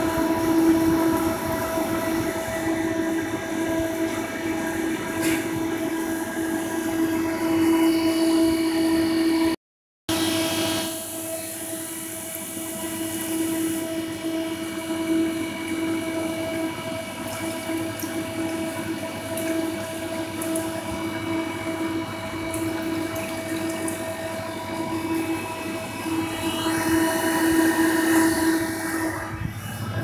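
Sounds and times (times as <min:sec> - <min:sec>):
vending machine refrigeration hum: 0:00.0 - 0:30.0.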